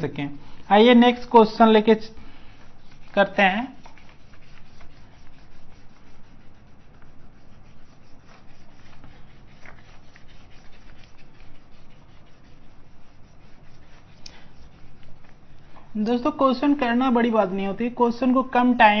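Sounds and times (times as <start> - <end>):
duster rubbing on whiteboard: 0.0 - 18.4.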